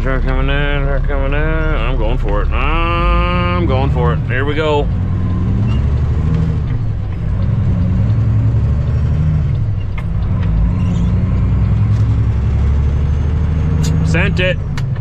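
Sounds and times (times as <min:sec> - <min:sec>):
truck diesel engine accelerating: 0:00.0 - 0:15.0.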